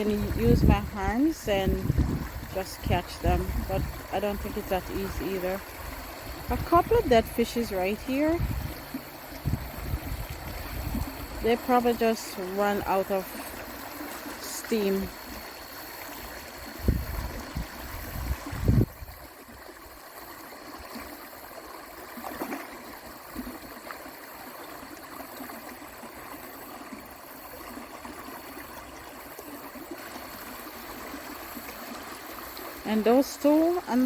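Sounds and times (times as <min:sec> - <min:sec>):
creek water running: 0:00.0 - 0:34.0.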